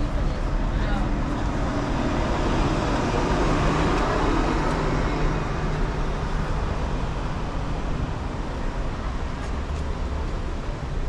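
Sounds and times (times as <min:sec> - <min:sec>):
city street traffic: 0:00.0 - 0:11.0
passing vehicle engine hum: 0:00.0 - 0:11.0.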